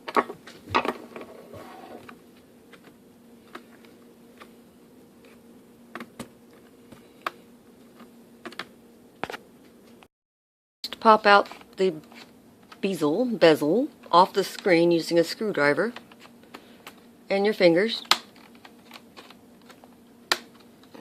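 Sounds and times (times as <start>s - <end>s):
faint steady hum: 0.0s - 10.1s, 10.8s - 21.0s.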